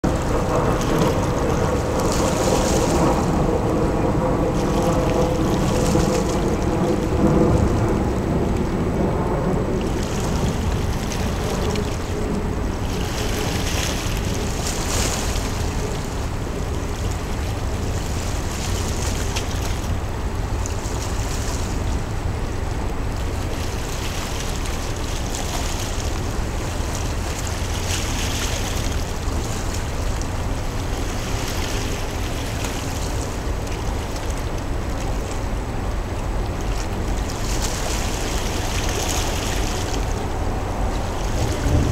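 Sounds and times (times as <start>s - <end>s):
low hum: 0.0s - 41.9s
small waves washing ashore: 0.0s - 41.9s
steady low rumble: 0.0s - 41.9s.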